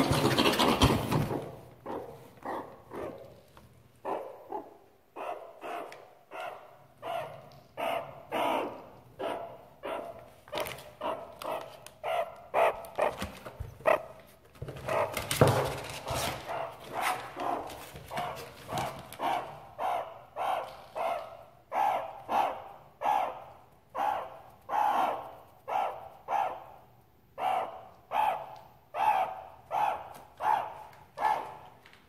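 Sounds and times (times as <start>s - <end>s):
meerkats calling: 0.0s - 31.8s.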